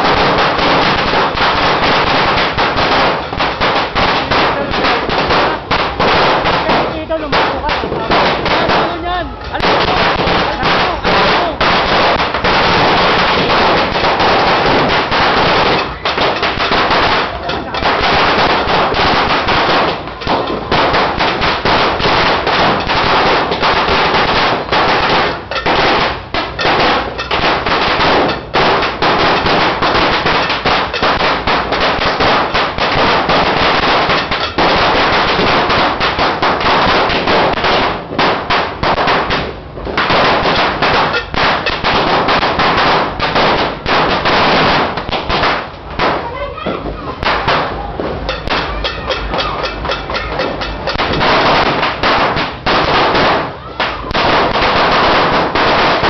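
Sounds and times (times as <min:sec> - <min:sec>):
firecrackers rattling: 0:00.0 - 0:56.0.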